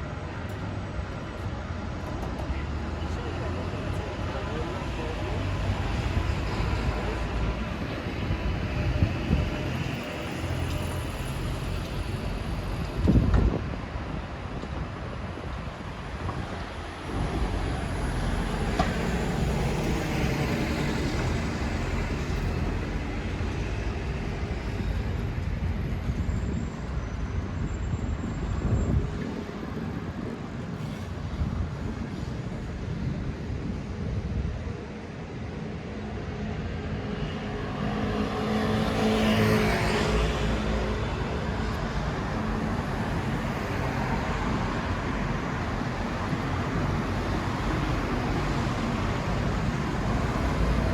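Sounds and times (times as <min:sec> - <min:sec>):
road traffic passing: 0:00.0 - 0:50.9.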